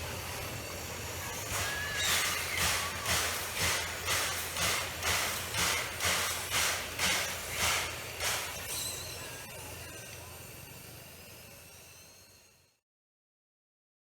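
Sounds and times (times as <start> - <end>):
steam hiss: 0.0 - 11.6
steam locomotive chuffing: 0.0 - 12.2.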